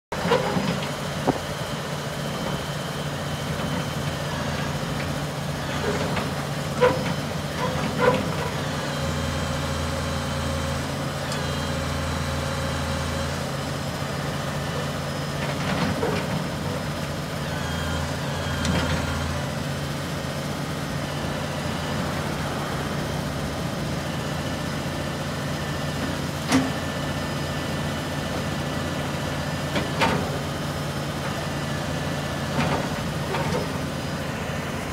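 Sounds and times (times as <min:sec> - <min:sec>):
truck engine idling: 0:00.2 - 0:34.9.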